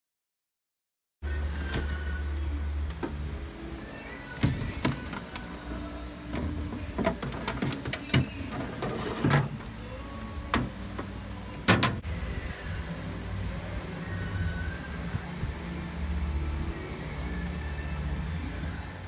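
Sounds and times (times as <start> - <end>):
low steady hum: 1.2 - 19.0.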